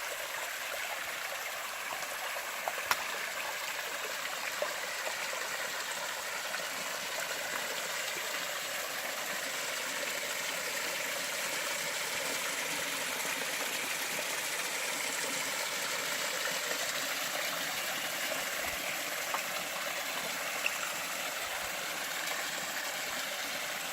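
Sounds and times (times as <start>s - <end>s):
stream rushing over rocks: 0.0s - 23.9s.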